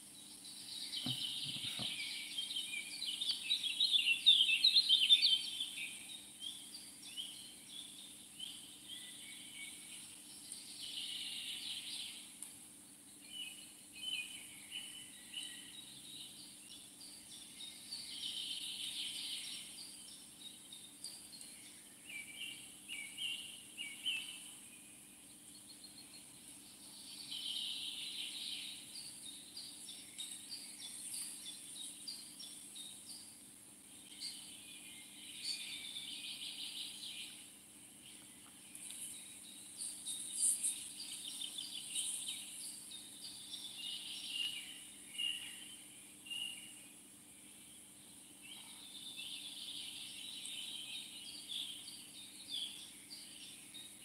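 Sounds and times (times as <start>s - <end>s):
birds singing and chirping: 0.0s - 54.0s
faint high hiss: 0.0s - 54.0s.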